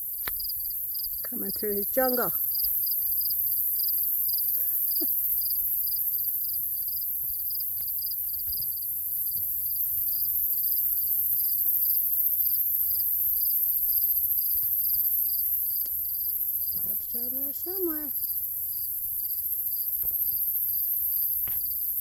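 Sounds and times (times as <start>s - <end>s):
crickets chirping: 0.0s - 22.0s
steady high-pitched hiss: 0.0s - 22.0s.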